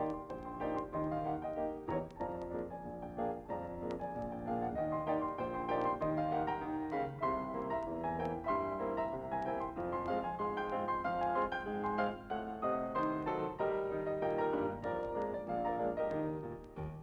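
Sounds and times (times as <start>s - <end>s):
lively piano music: 0.0s - 17.0s.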